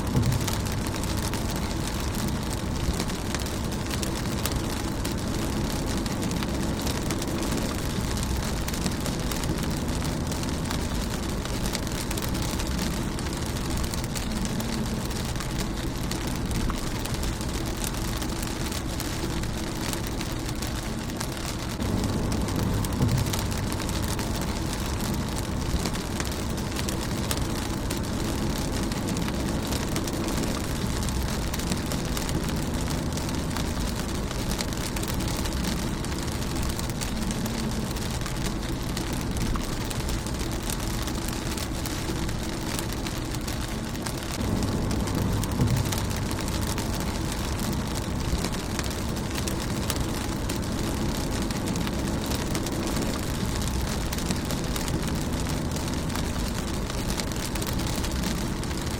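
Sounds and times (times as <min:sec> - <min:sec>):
low rumble: 0:00.0 - 0:58.9
rain on a car windscreen: 0:00.0 - 0:58.9.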